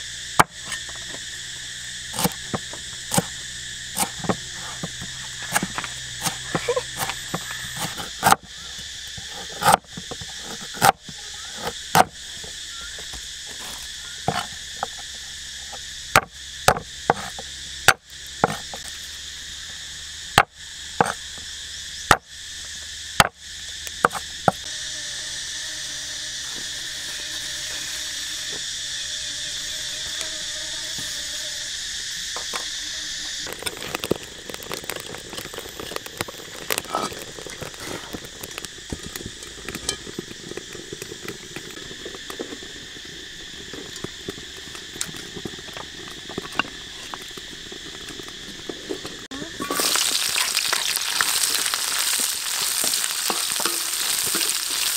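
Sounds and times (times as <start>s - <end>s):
insect chorus chirring: 0.0s - 54.9s.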